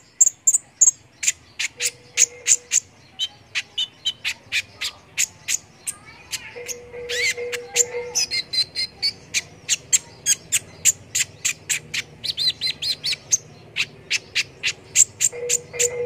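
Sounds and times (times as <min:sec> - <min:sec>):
sunbird chirping: 0:00.0 - 0:16.0
warbled bird phrases: 0:00.0 - 0:16.0.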